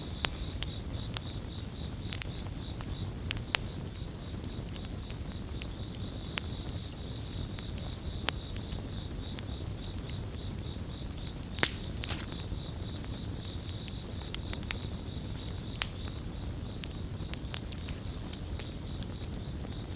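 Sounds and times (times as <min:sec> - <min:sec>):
campfire crackling and popping: 0:00.0 - 0:19.9
crickets chirping: 0:00.0 - 0:19.9.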